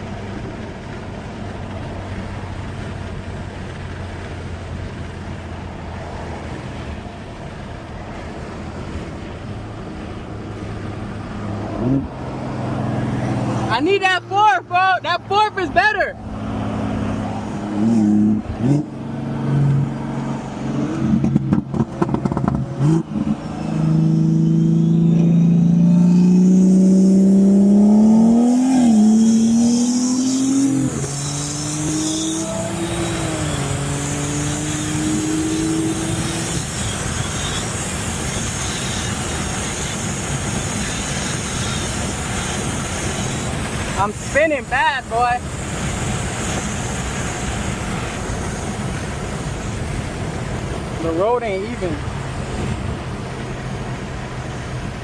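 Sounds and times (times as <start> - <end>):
car engine at full throttle: 0.0 - 55.0
wind and road noise: 0.0 - 55.0.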